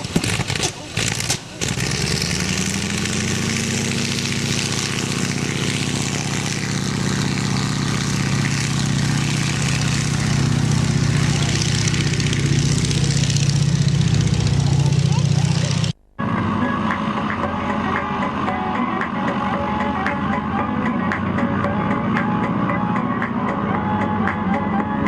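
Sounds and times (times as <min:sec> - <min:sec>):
propeller aircraft engine running up: 0:00.0 - 0:25.0.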